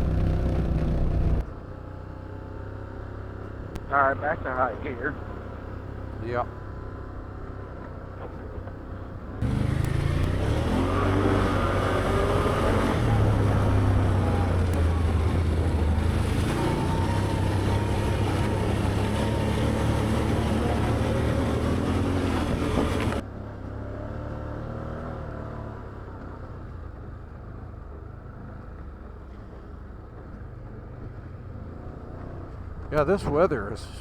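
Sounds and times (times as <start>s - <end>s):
ride noise: 0.0s - 2.5s, 3.1s - 23.9s, 25.8s - 34.0s
atv engine running: 0.0s - 34.0s.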